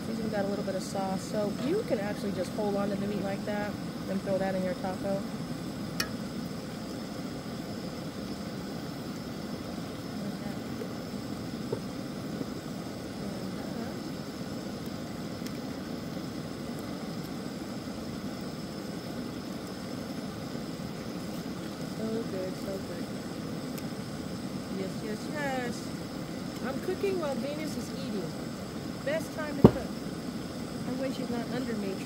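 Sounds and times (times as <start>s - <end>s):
gas burner rushing: 0.0s - 32.0s.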